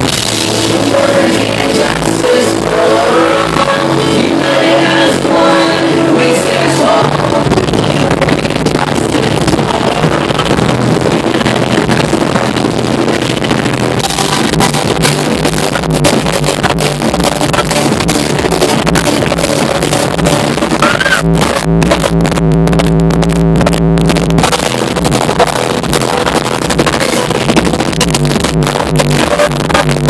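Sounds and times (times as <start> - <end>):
distorted live band music: 0.0 - 30.0.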